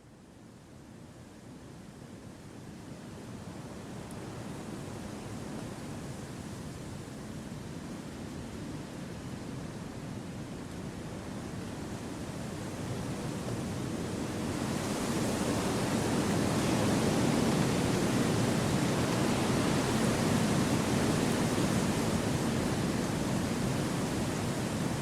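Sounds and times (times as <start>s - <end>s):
wind rushing through forest: 3.2s - 25.0s.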